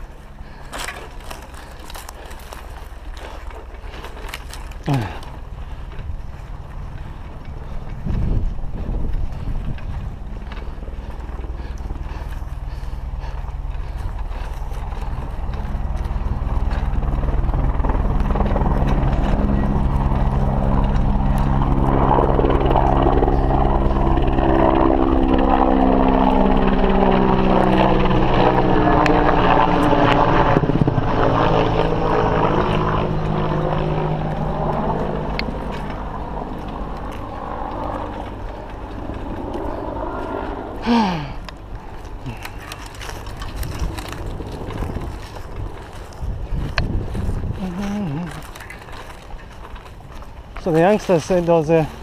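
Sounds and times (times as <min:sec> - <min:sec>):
engine droning hum: 0:00.0 - 0:52.0
mountain bike rattling over dirt: 0:00.0 - 0:52.0.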